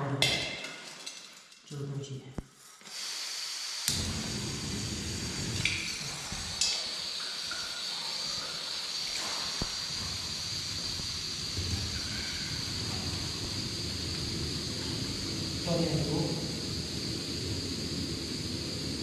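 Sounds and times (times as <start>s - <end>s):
gas stove burner hissing: 2.5s - 19.0s.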